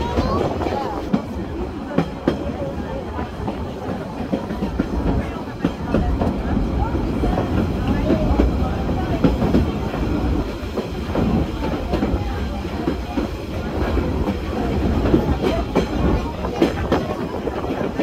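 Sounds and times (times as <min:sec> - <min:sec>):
rail joint clicks and knocks: 0:00.0 - 0:18.0
train wheels rumbling on rails: 0:00.0 - 0:18.0.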